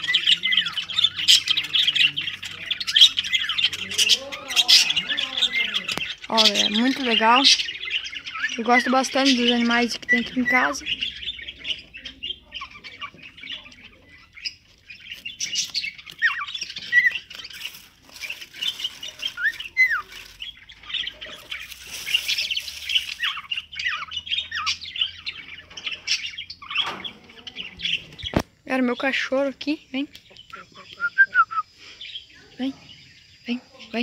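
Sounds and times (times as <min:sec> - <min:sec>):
small birds chattering: 0:00.0 - 0:34.0.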